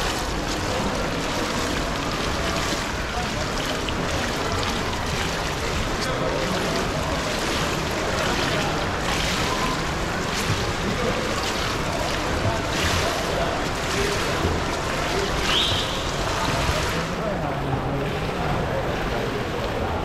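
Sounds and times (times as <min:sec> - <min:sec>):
water lapping and sloshing: 0:00.0 - 0:20.0.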